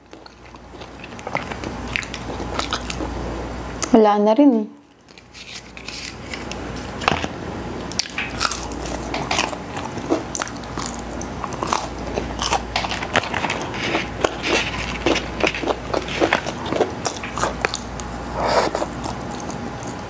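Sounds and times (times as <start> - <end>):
crunchy chewing: 0.0 - 3.9, 4.8 - 7.1, 7.8 - 20.0.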